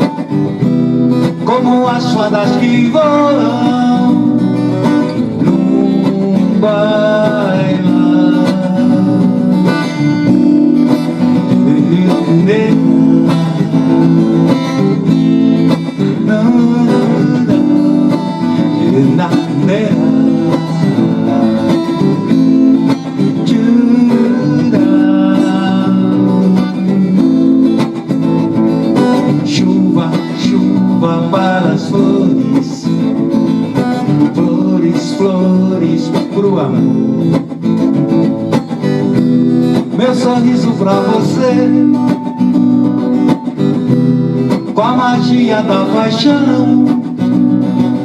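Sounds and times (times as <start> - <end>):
plucked acoustic strings melody: 0.0 - 48.0.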